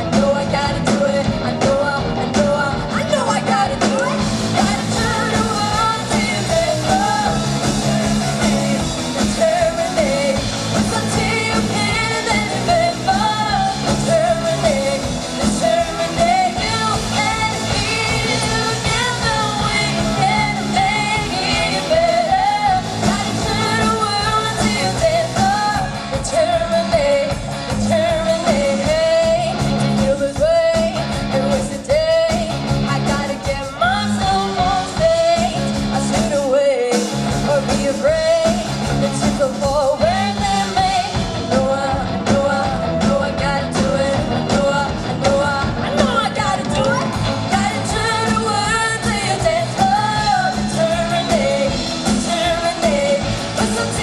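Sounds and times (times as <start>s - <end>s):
lead singer singing: 0.0s - 54.0s
live rock band playing: 0.0s - 54.0s
steady drum beat: 0.0s - 54.0s.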